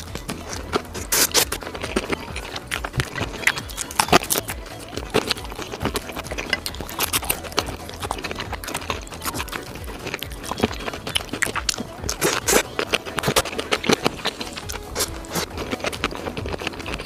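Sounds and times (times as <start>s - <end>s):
person chewing noodles: 0.0s - 17.0s.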